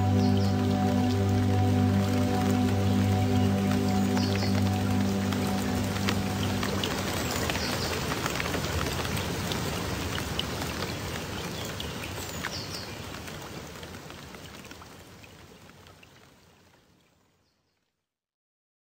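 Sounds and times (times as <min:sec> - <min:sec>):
rain falling: 0:00.0 - 0:17.3.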